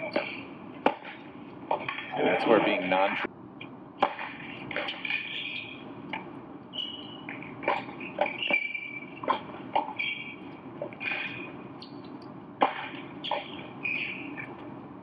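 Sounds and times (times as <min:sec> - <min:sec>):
shoes squeaking on court: 0:00.0 - 0:02.2, 0:04.1 - 0:14.6
tennis rackets hitting ball: 0:00.0 - 0:02.2, 0:04.0 - 0:14.5.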